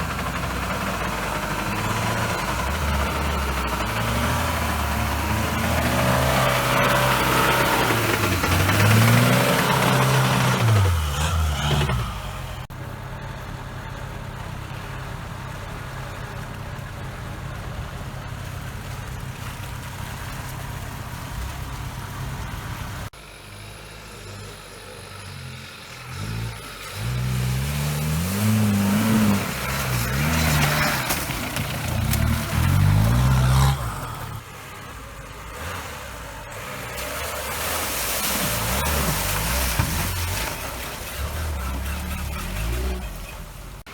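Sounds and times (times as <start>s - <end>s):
off-road engine revving: 0.0s - 43.9s.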